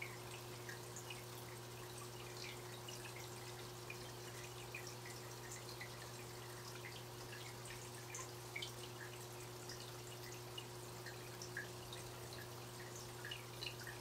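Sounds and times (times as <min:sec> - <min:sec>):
aquarium water trickling: 0:00.0 - 0:14.0
water drips: 0:00.0 - 0:14.0.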